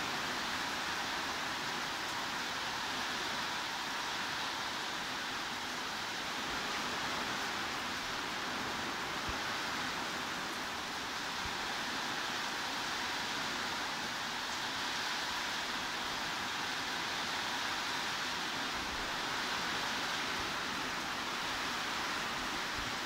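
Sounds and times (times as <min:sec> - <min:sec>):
heavy rain hiss: 0:00.0 - 0:23.0.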